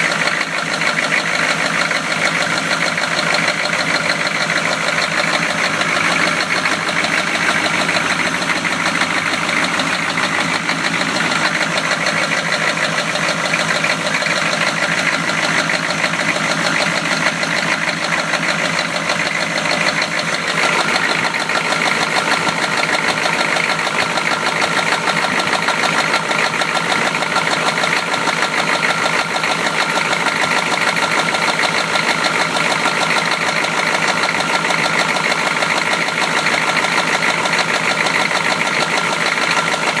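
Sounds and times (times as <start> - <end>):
car engine knocking: 0.0 - 40.0.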